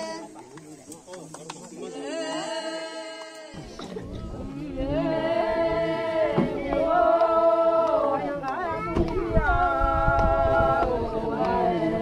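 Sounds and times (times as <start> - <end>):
group singing unaccompanied: 1.8 - 12.0.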